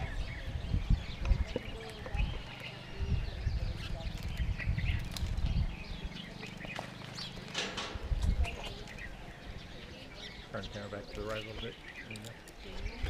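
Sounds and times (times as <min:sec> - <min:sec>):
birds chirping: 0:00.0 - 0:13.0
wind buffeting microphone: 0:00.0 - 0:13.0.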